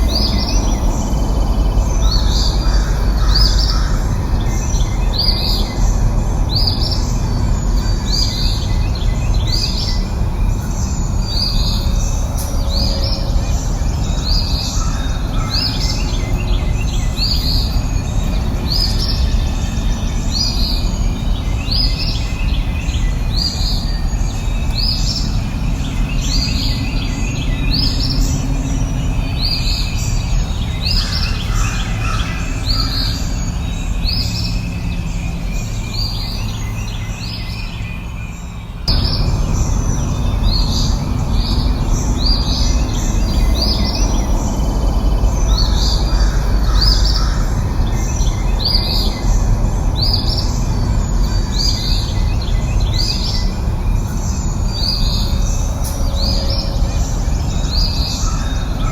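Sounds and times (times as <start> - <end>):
low rush of background noise: 0.0 - 58.9.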